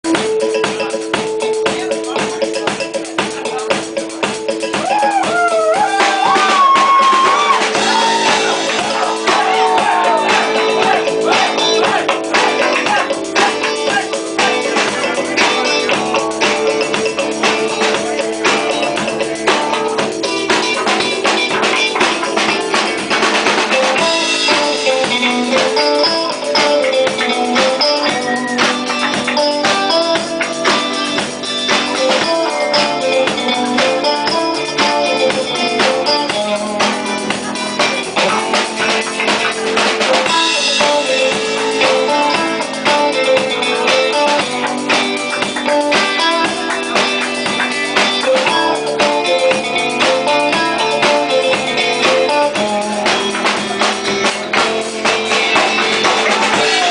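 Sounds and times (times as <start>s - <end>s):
drum kit beat: 0.0s - 56.9s
electric guitars: 0.0s - 56.9s
melody over held chords: 0.1s - 56.9s.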